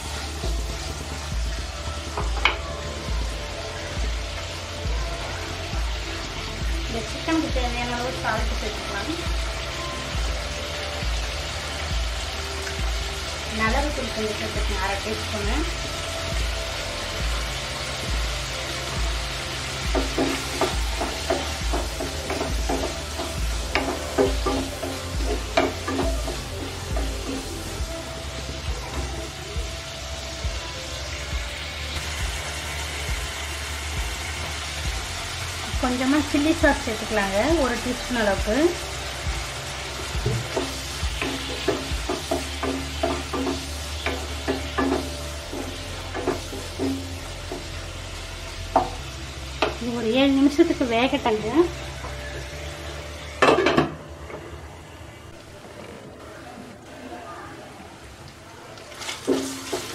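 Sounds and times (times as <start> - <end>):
chicken sizzling in oil: 0.0 - 54.0, 57.6 - 59.9.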